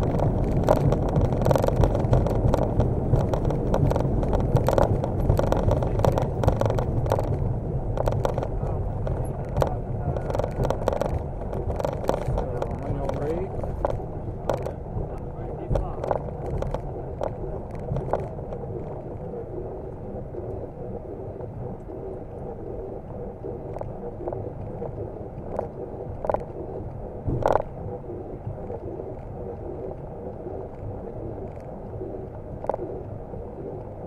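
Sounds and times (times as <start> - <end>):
aircraft rolling rumble: 0.0 - 34.0.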